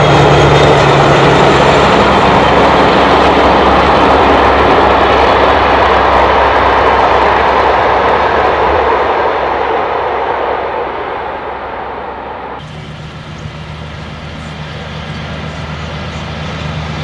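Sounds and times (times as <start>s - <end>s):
diesel locomotive engine working: 0.0s - 17.0s.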